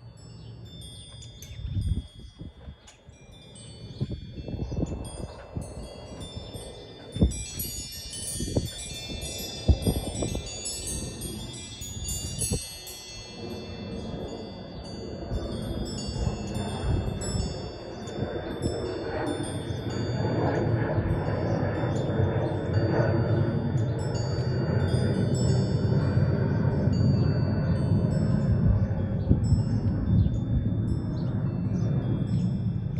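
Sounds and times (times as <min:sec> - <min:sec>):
wind chimes ringing: 0:00.0 - 0:32.9.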